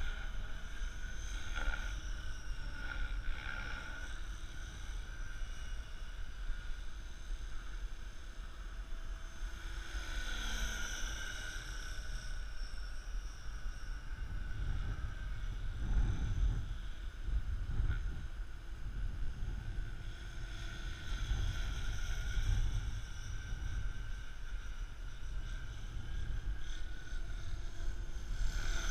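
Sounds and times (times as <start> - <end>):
model helicopter whine: 0.0 - 28.9
wind rumbling on microphone: 0.0 - 28.9.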